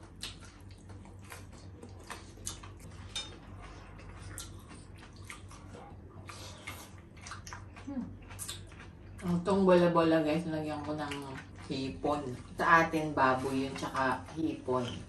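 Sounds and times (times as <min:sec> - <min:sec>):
people chewing and lip-smacking: 0:00.0 - 0:15.0
steady low hum: 0:00.0 - 0:15.0.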